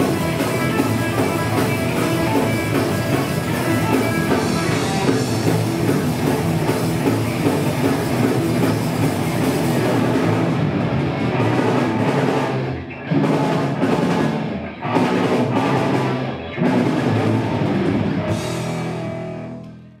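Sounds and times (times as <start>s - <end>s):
rock band playing loud: 0.0s - 20.0s.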